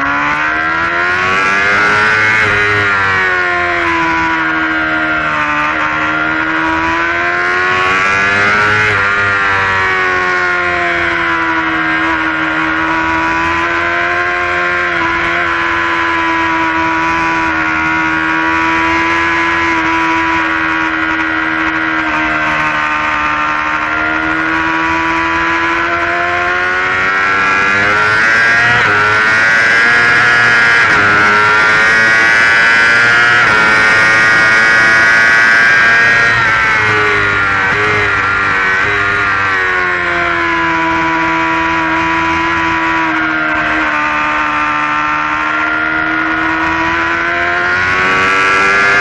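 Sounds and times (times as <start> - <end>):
motorcycle engine at high revs: 0.0 - 49.0.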